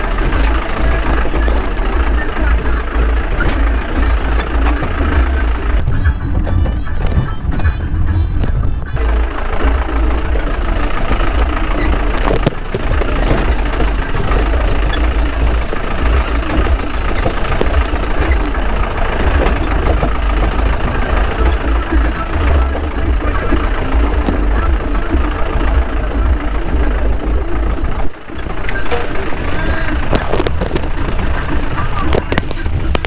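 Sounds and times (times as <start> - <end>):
background music: 0.0 - 33.0
jeep engine rumbling: 0.0 - 33.0
road noise: 0.0 - 33.0.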